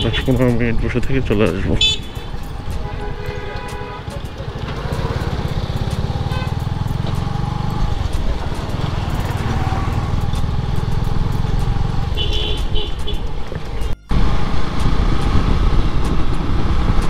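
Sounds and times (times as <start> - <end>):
motorcycle engine running: 1.3 - 17.0.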